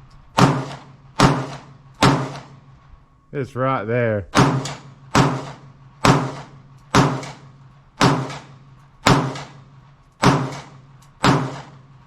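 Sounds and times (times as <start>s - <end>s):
gunshots with echo: 0.4s - 2.6s, 4.3s - 11.9s.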